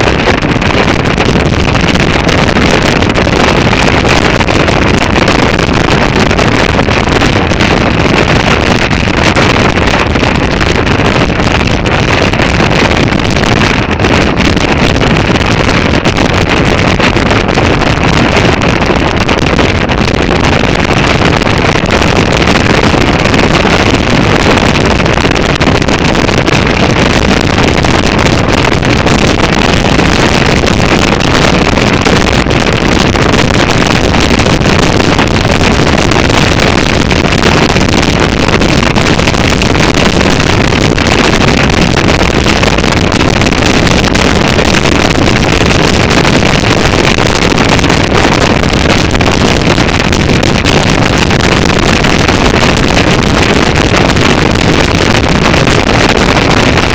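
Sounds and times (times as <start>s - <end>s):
road noise: 0.0s - 56.9s
wind rushing over helmet: 0.0s - 56.9s.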